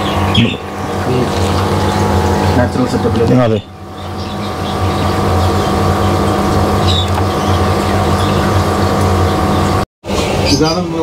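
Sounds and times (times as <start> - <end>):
mechanical hum with electrical buzz: 0.0 - 11.0.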